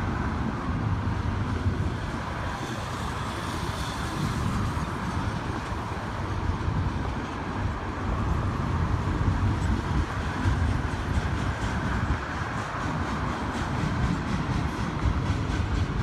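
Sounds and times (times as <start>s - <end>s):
freeway traffic: 0.0s - 16.0s
train wheels rumbling on rails: 0.0s - 16.0s.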